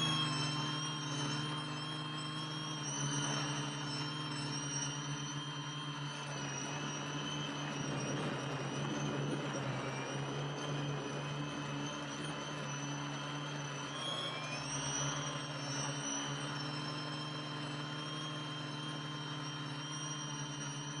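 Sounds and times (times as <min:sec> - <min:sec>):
quadcopter motors whirring: 0:00.0 - 0:21.0.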